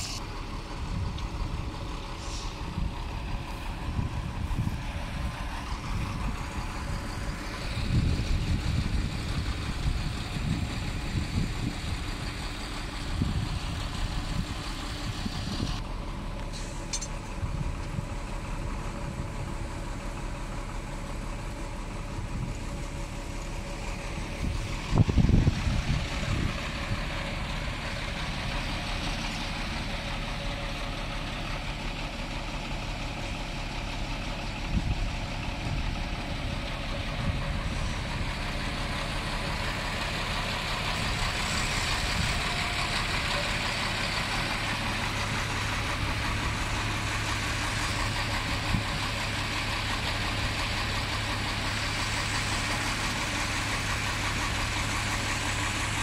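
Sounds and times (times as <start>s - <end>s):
excavator diesel engine idling: 0.0s - 56.0s.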